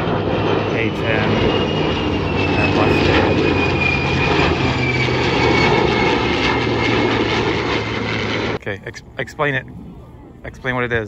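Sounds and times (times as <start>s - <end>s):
aircraft engine drone: 0.0s - 11.0s
high jet whine: 0.0s - 11.0s.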